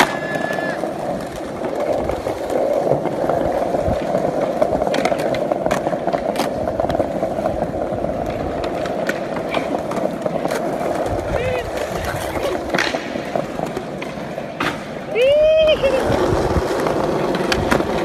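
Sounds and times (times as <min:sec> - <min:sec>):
skateboard clacks: 0:00.0 - 0:18.0
skateboard wheels rolling on stone: 0:00.0 - 0:18.0.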